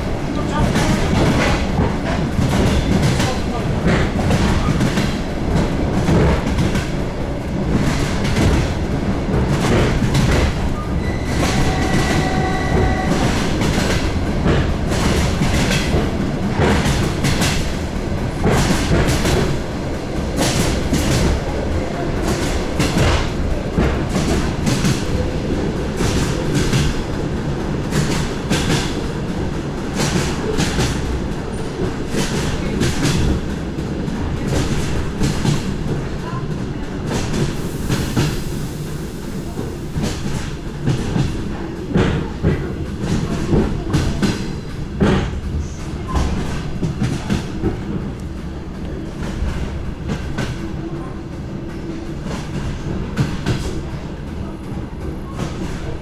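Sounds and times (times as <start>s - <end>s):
train rumble: 0.0s - 56.0s
train wheels clattering on rail joints: 0.0s - 56.0s.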